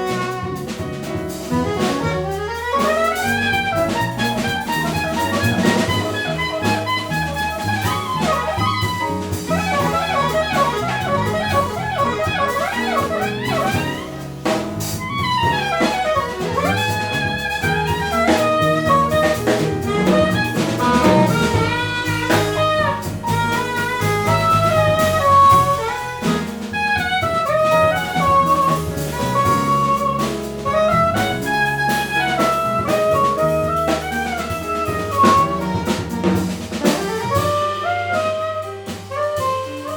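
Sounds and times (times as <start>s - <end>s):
double bass: 0.0s - 39.9s
drum kit: 0.0s - 39.9s
piano: 0.0s - 39.9s
saxophone melody: 0.0s - 39.9s.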